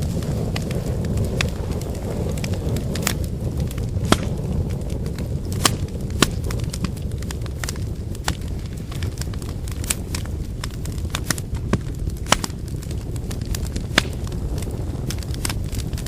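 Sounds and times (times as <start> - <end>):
burning wood crackling and popping: 0.0 - 16.0
flames rumbling: 0.0 - 16.0.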